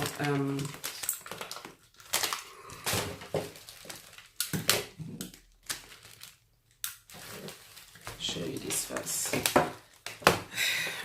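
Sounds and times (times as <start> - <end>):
packaging rustling: 0.0 - 10.6.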